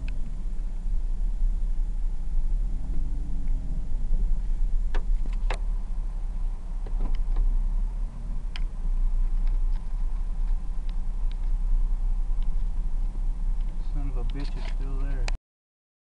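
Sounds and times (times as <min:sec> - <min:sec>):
engine and tyres rumbling: 0:00.0 - 0:15.4.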